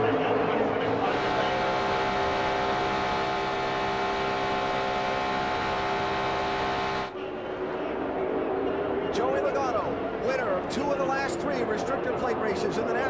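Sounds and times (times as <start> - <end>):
race car engines at full throttle: 0.0 - 7.2, 9.0 - 13.0.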